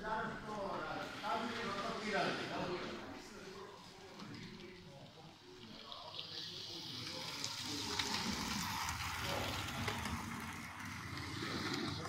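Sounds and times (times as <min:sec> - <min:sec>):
model train whirring on track: 0:01.0 - 0:12.0.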